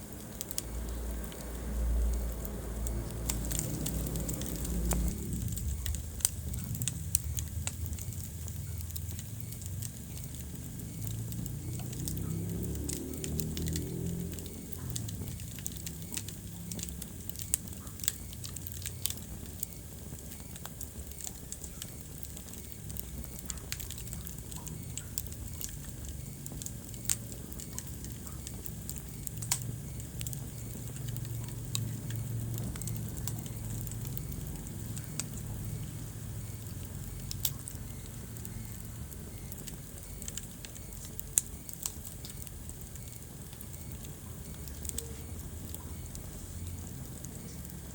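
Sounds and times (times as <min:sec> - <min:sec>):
low steady rumble: 0:00.0 - 0:47.9
wood fire crackling: 0:00.0 - 0:47.9.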